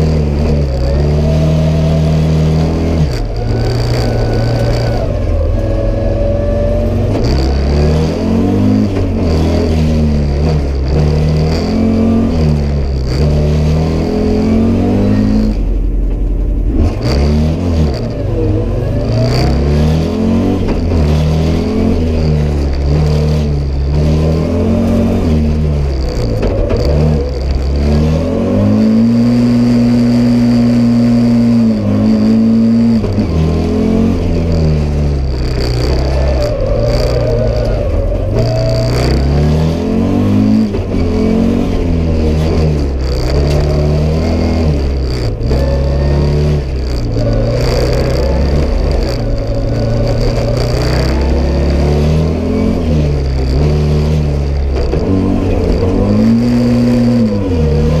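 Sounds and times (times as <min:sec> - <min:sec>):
car engine revving under acceleration: 0:00.0 - 0:58.0.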